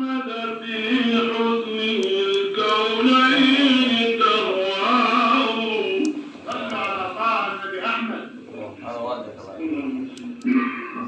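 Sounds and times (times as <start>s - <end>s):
man chanting unaccompanied: 0.0s - 11.0s.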